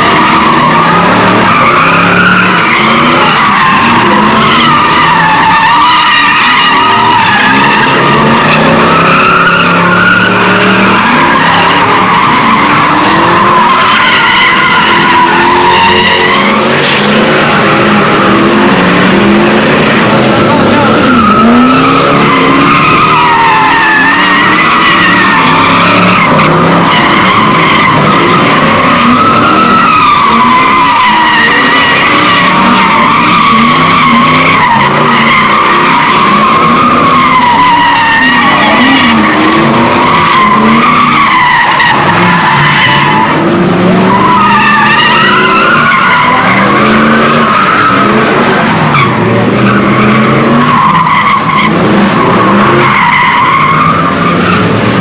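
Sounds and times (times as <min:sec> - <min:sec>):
engines revving hard: 0:00.0 - 0:55.0
tyres squealing: 0:00.0 - 0:55.0.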